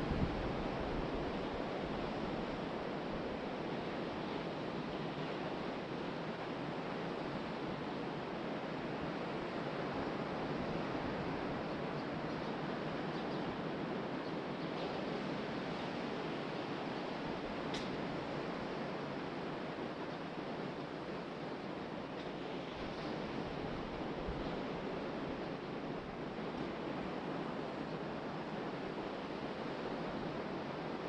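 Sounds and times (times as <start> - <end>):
ocean surf on beach: 0.0 - 31.0
wind: 0.0 - 31.0.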